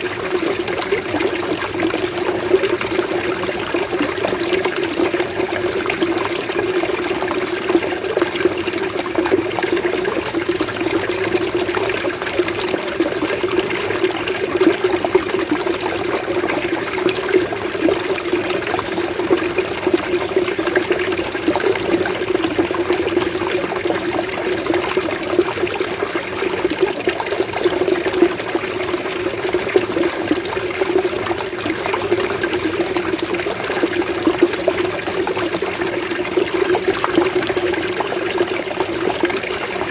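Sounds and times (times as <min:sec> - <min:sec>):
water gurgling: 0:00.0 - 0:39.9.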